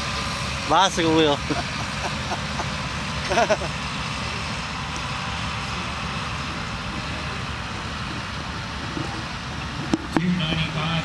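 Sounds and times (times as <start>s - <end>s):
tractor diesel engines running: 0.0s - 11.0s.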